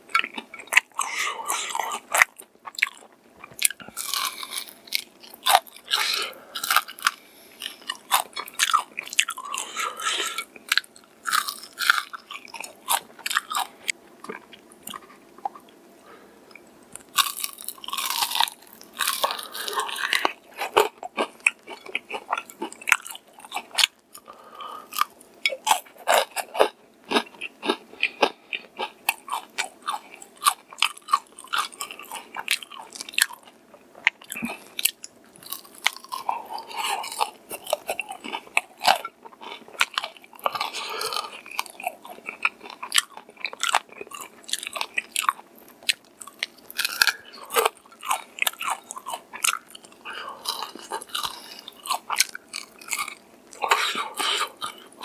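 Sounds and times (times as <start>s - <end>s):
crunching fried chicken: 0.1s - 15.6s, 16.9s - 55.0s.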